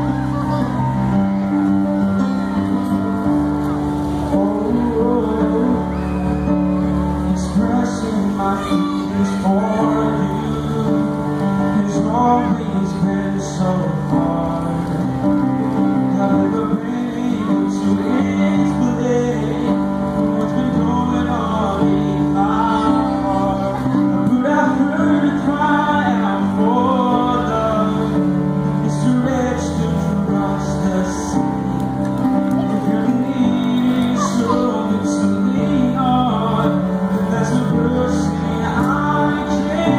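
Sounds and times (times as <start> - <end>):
grand piano chords: 0.0 - 39.9
man singing: 4.3 - 39.9.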